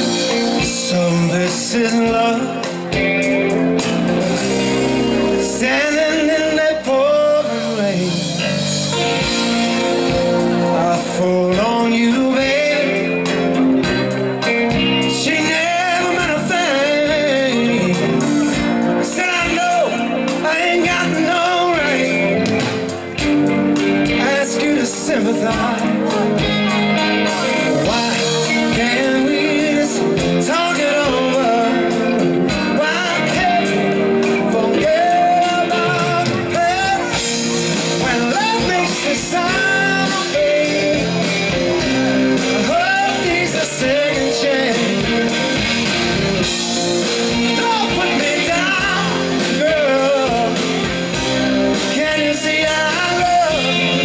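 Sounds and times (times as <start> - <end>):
lead vocal singing: 0.0 - 54.0
live rock band: 0.0 - 54.0.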